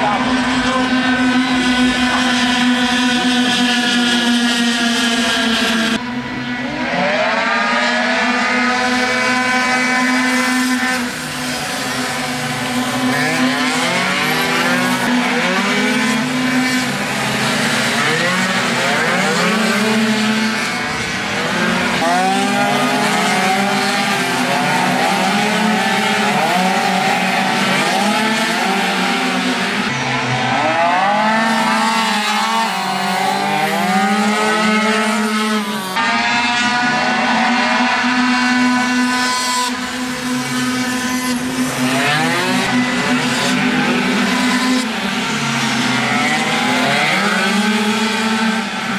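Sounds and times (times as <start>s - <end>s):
racing scooter engines screaming: 0.0s - 48.9s.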